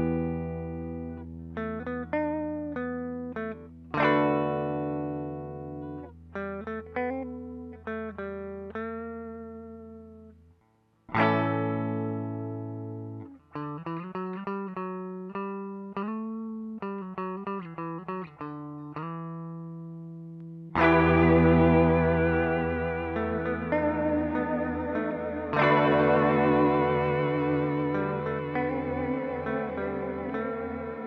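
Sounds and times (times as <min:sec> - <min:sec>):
clean electric guitar with reverb: 0:00.0 - 0:31.0.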